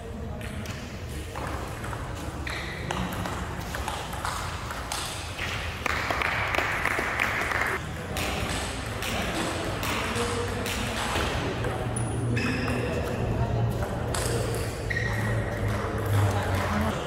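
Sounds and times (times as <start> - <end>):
voices in a hall: 0.0 - 17.0.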